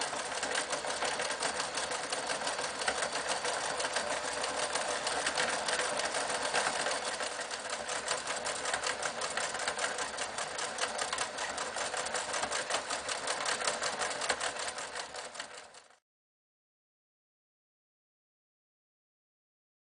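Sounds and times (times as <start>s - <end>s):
sewing machine stitching: 0.0s - 16.0s.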